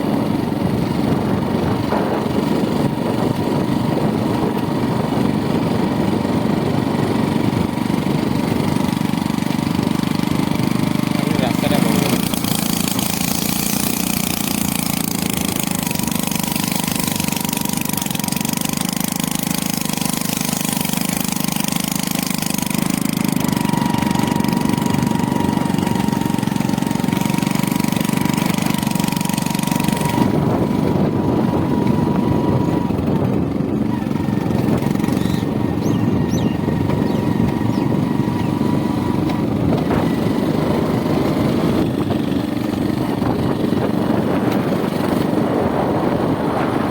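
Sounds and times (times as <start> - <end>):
road and wind noise: 0.0 - 46.9
vehicle engine running: 0.0 - 46.9.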